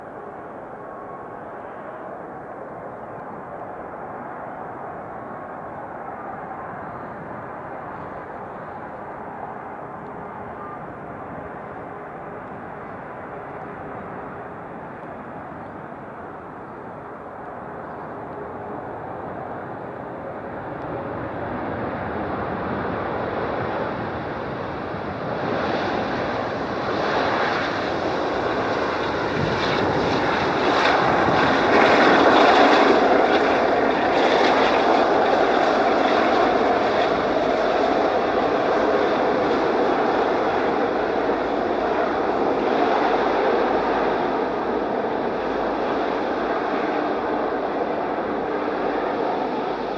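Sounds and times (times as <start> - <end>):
jet airliner engine noise: 0.0 - 49.9.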